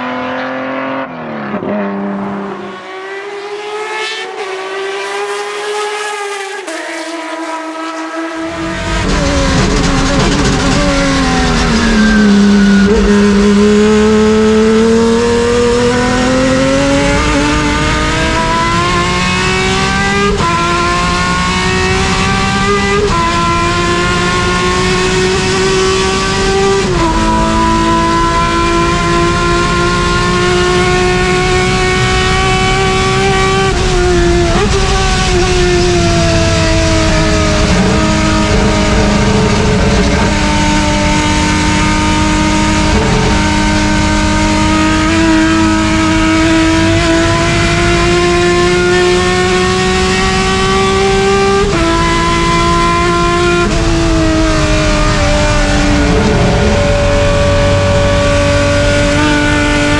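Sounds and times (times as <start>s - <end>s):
race car engine at full throttle: 0.0s - 59.9s.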